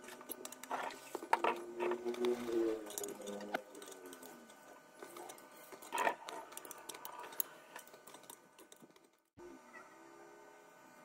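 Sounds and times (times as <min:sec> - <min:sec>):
metallic scraping of screw threads: 0:00.1 - 0:09.2.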